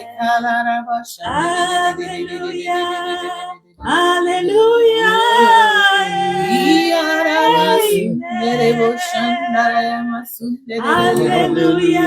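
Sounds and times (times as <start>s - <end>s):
person singing worship song: 0.0s - 12.0s.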